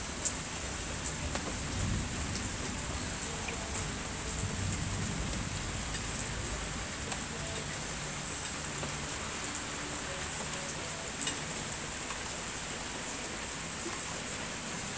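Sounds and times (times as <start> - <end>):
steady rain on lawn: 0.0 - 14.9.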